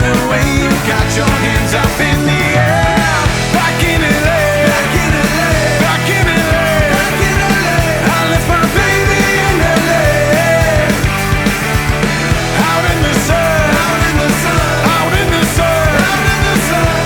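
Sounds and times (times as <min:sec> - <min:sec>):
rock band music: 0:00.0 - 0:17.0.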